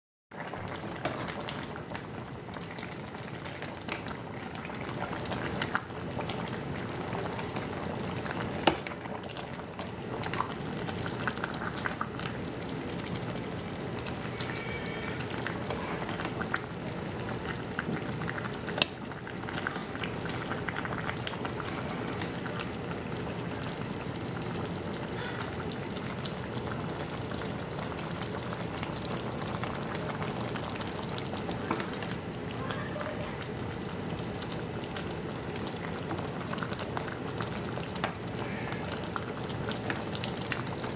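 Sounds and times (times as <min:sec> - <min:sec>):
food bubbling in a pot: 0:00.3 - 0:40.9.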